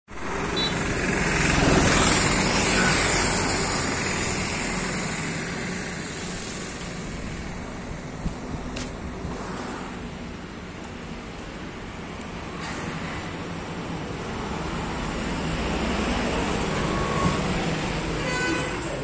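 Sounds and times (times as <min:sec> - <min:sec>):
passing road vehicle: 0:00.2 - 0:19.0.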